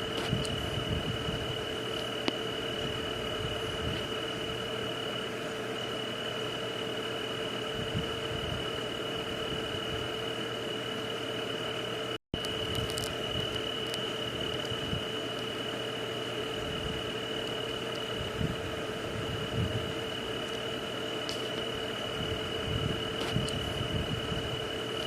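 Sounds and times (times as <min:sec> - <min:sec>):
constant high drone: 0:00.0 - 0:25.0
low steady hum: 0:00.0 - 0:25.0.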